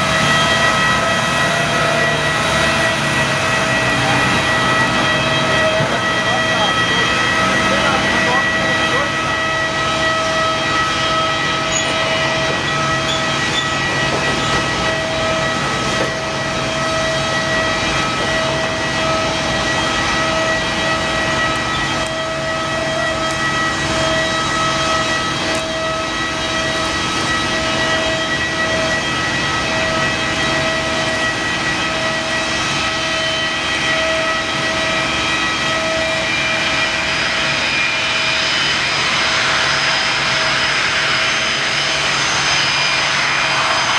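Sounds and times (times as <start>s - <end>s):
jet engines whining: 0.0s - 43.9s.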